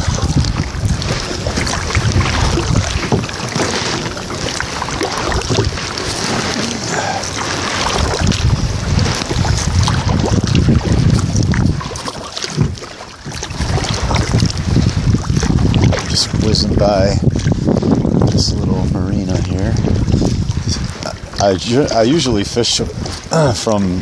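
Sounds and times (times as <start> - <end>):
paddle splashing in water: 0.0 - 24.0
wind on microphone: 0.0 - 24.0.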